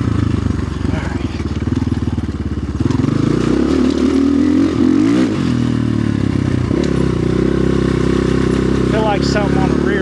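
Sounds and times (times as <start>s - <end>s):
dirt bike engine under throttle: 0.0s - 10.0s.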